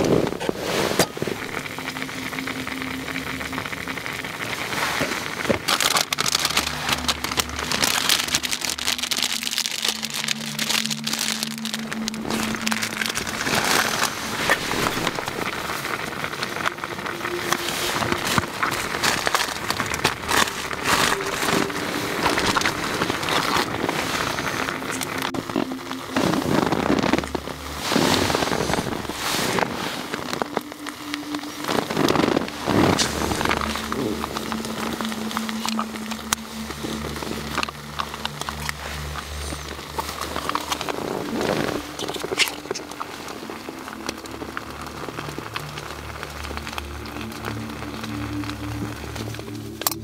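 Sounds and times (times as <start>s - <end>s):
soft low background music: 0.0s - 50.0s
cloth rustling: 4.7s - 45.3s.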